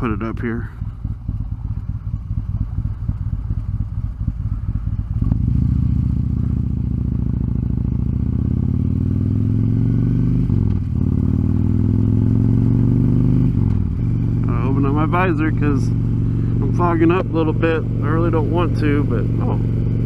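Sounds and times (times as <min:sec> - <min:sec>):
motorcycle engine idling and accelerating: 0:00.0 - 0:20.0.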